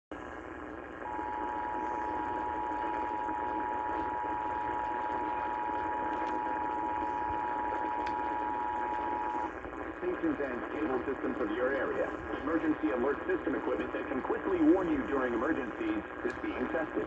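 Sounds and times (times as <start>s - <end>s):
radio static hiss: 0.2s - 17.0s.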